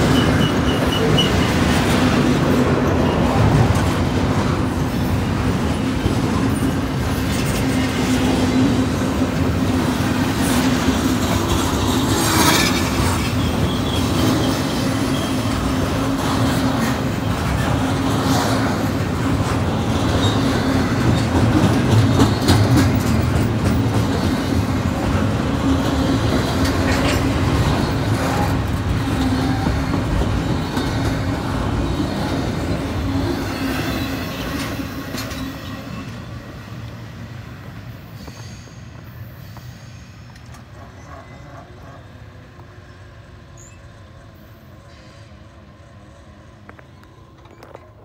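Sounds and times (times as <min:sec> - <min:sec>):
freight train wheels clattering: 0:00.0 - 0:42.0
train braking: 0:00.0 - 0:48.0.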